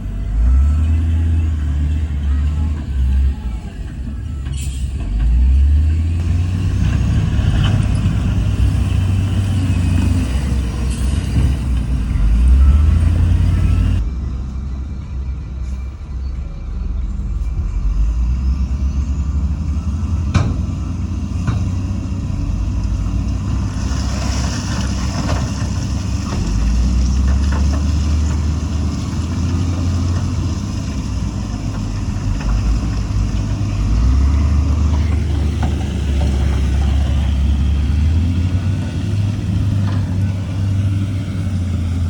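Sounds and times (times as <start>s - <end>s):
diesel engine rumble: 0.0s - 42.0s.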